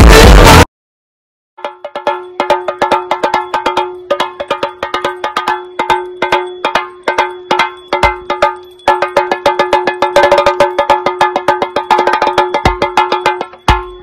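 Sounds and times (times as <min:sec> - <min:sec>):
drum beaten with sticks: 0:00.0 - 0:00.7, 0:01.6 - 0:14.0
steady ringing tone: 0:01.6 - 0:14.0.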